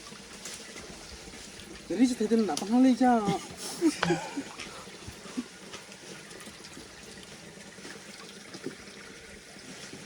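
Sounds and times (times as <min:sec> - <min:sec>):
stream water trickling: 0:00.0 - 0:10.0.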